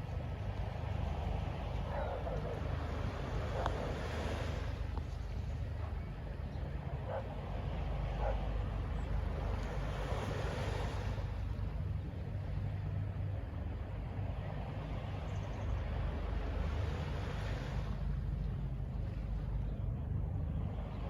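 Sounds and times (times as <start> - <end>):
wash of noise: 0.0 - 6.0, 6.9 - 21.0
low traffic rumble: 0.0 - 21.0.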